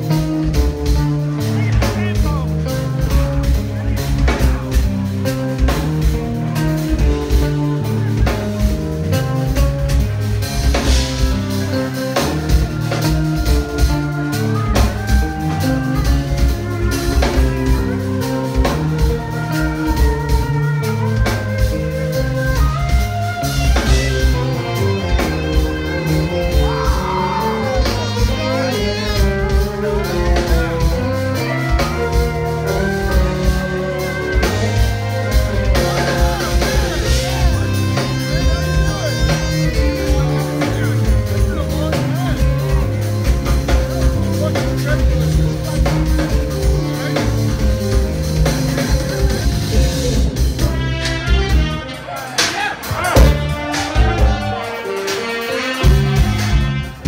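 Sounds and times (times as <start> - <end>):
electric bass: 0.0 - 52.0, 52.9 - 57.0
drum kit beat: 0.0 - 57.0
keyboards: 0.0 - 57.0.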